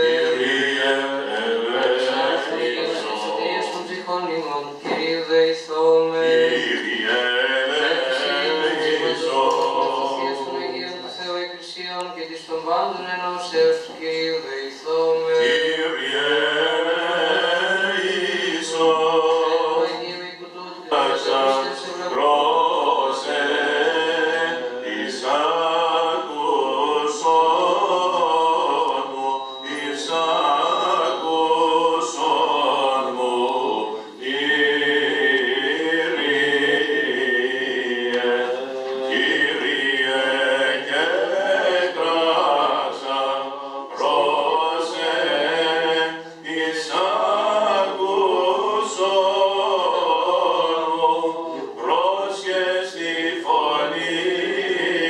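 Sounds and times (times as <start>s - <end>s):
men chanting a hymn: 0.0s - 55.0s.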